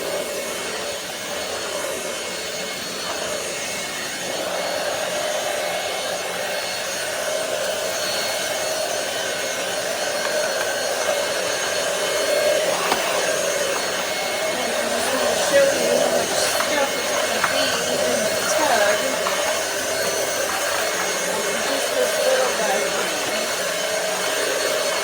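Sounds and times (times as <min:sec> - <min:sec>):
stick vacuum running: 0:00.0 - 0:25.0.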